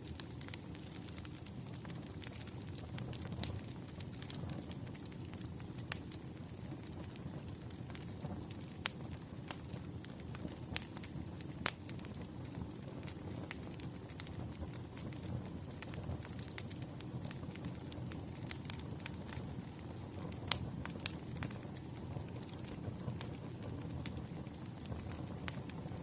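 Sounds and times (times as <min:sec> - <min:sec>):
low rush of flame: 0:00.0 - 0:26.0
wood fire crackling: 0:00.0 - 0:26.0.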